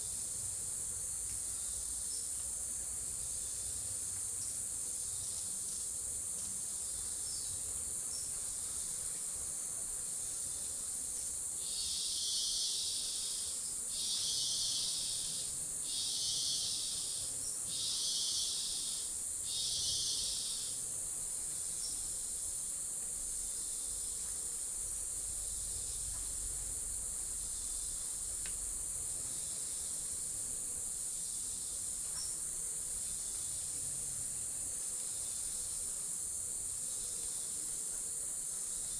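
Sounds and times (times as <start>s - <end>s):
insects chorus: 0.0s - 38.9s
loud buzzing insect call: 0.0s - 38.9s.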